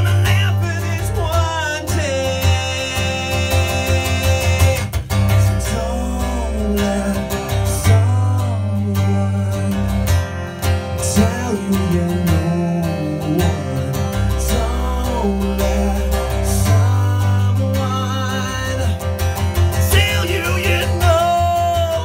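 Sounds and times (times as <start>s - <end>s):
person singing: 0.0s - 10.0s, 11.0s - 22.0s
acoustic guitar playing: 0.0s - 22.0s.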